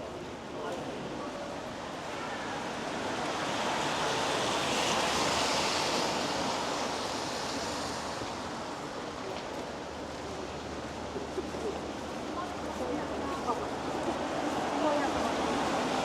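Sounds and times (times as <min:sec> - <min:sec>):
rain: 0:00.0 - 0:16.0
traffic hiss on wet road: 0:01.7 - 0:16.0.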